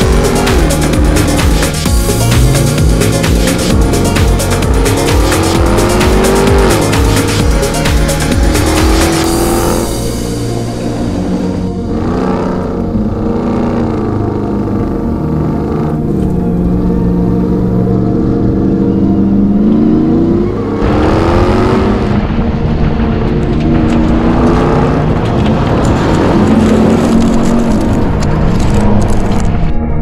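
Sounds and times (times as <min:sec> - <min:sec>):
tyres churning through gravel: 0:00.0 - 0:18.5, 0:19.2 - 0:30.0
truck engine revving: 0:00.0 - 0:30.0.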